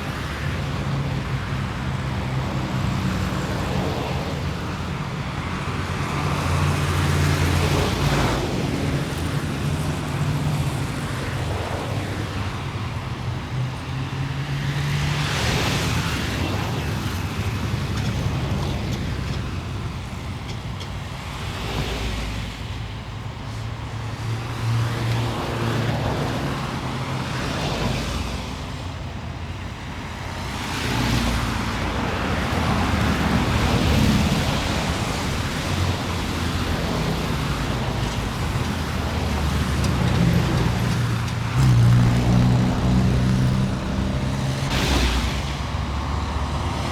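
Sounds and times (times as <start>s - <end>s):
hum of car and truck engines: 0.0s - 46.9s
vehicles passing by: 0.0s - 46.9s.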